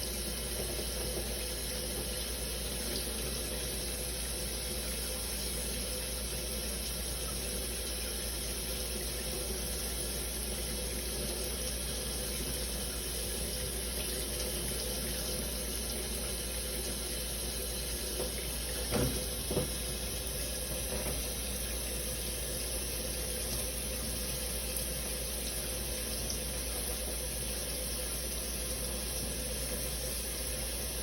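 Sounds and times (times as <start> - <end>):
shower water spraying: 0.0 - 31.0.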